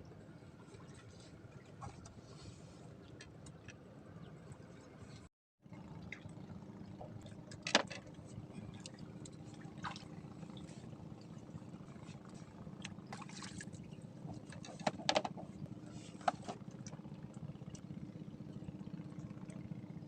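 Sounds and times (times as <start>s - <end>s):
water lapping and trickling: 0.0s - 20.0s.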